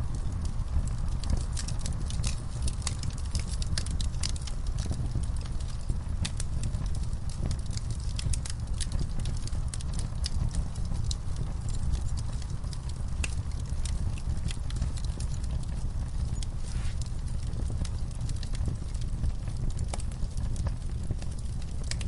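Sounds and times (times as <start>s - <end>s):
burning wood popping: 0.0s - 22.0s
log fire crackling: 0.0s - 22.0s
low rumble of flames: 0.0s - 22.0s.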